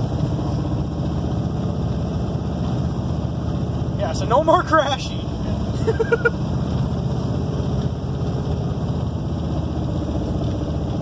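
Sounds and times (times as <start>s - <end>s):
engine and road rumble in car: 0.0s - 11.0s.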